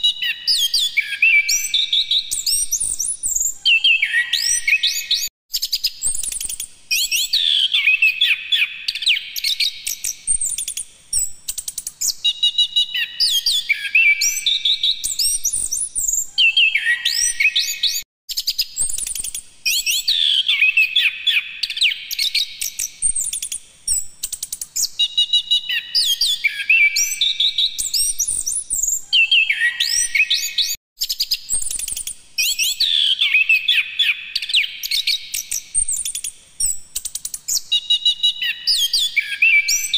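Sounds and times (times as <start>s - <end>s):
bird whistled song: 0.0s - 39.9s.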